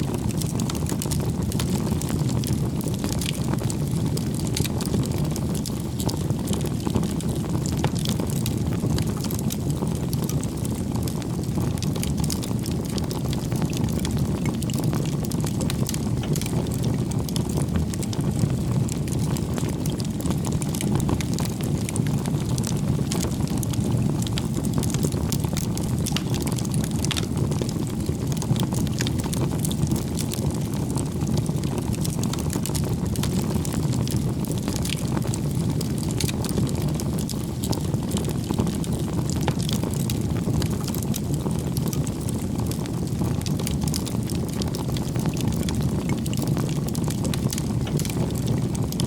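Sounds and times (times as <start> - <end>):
burning wood crackling and popping: 0.0 - 49.0
roar of flames: 0.1 - 49.0.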